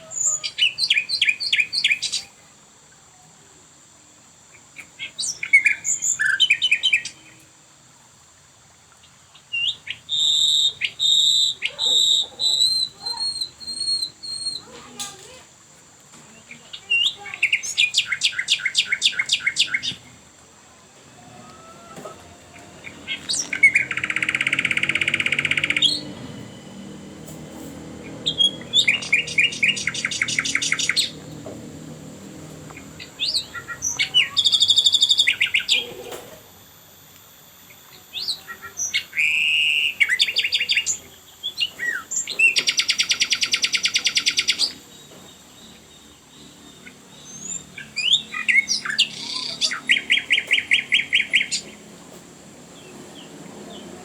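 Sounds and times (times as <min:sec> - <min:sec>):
songbird chirping and trilling: 0:00.0 - 0:03.5, 0:04.5 - 0:07.5, 0:08.9 - 0:54.0.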